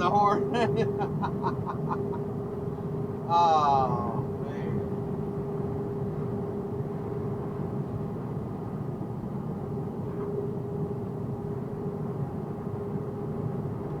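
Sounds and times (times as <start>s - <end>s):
mid-pitched hum: 0.0s - 14.0s
road and engine noise in truck cab: 0.0s - 14.0s.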